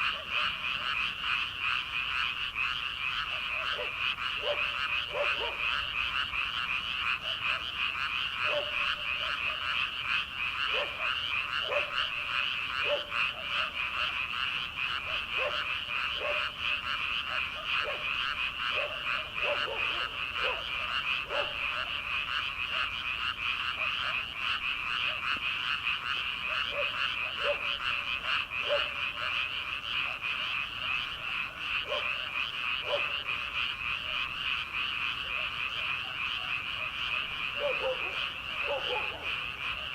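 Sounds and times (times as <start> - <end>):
frogs trilling chorus: 0.0 - 39.9
low frog croaks: 0.0 - 39.9.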